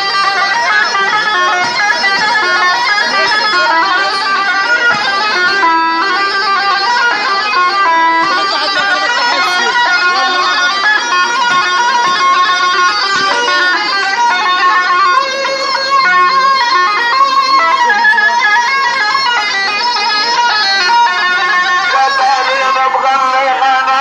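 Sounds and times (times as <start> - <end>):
double-reed clarinet melody: 0.0 - 23.8
band accompaniment: 0.0 - 24.0.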